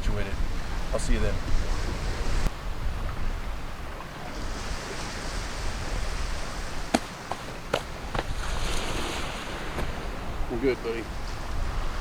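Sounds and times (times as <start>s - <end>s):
surf washing on shore: 0.0s - 12.0s
wind rumbling on microphone: 0.0s - 12.0s.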